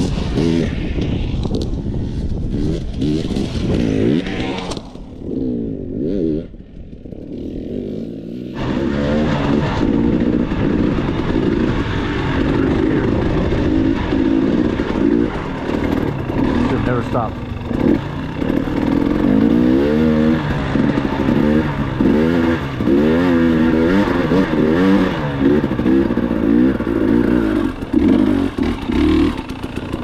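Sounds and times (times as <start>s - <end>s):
dirt bike engine revving: 2.5s - 30.0s.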